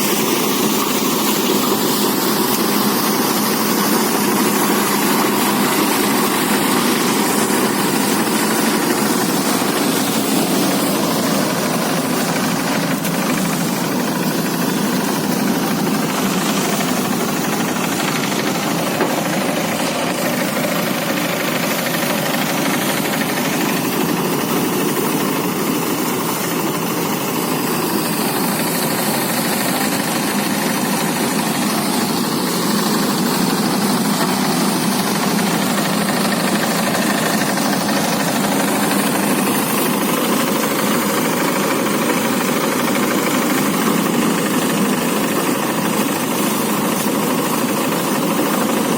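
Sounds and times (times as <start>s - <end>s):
rice thresher running: 0.0s - 48.9s.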